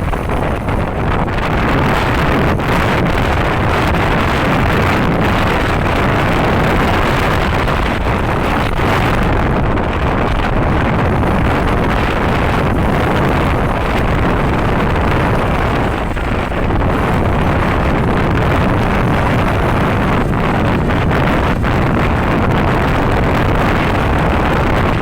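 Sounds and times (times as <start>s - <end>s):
wind on microphone: 0.0s - 25.0s.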